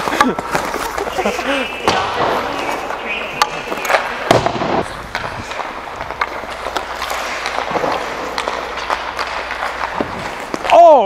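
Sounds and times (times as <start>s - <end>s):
hockey sticks and puck clicking: 0.0s - 11.0s
skates scraping on ice: 0.0s - 11.0s.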